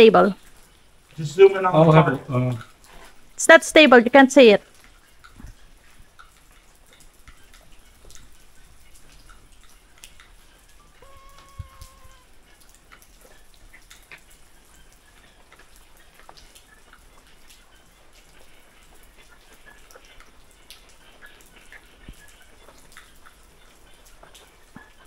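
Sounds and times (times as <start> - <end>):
low steady hiss: 0.0 - 25.0
faint ticks and chirps: 4.6 - 25.0.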